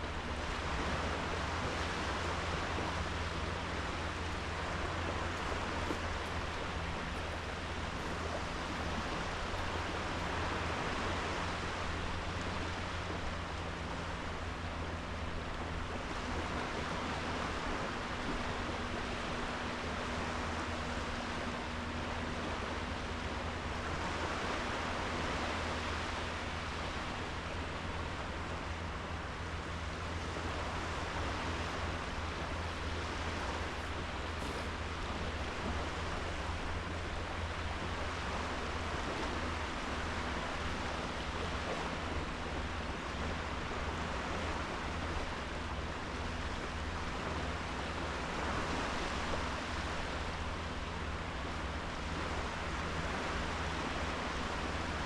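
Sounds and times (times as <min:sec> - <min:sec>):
waves washing onto sand: 0:00.0 - 0:55.0.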